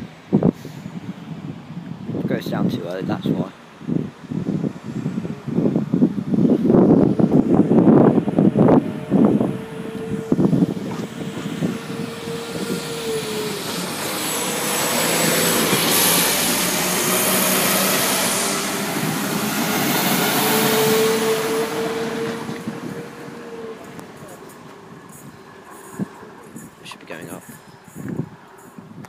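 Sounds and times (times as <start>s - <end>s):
train rumbling past: 0.0s - 28.9s.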